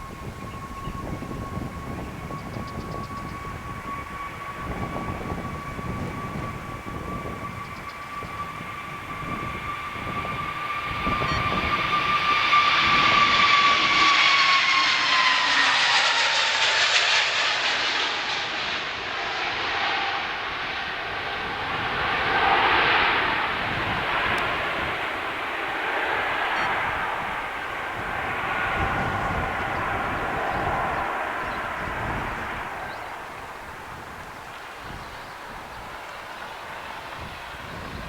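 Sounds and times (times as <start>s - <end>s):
wind buffeting microphone: 0.0s - 15.7s, 18.6s - 38.0s
jet engines passing by: 0.0s - 38.0s.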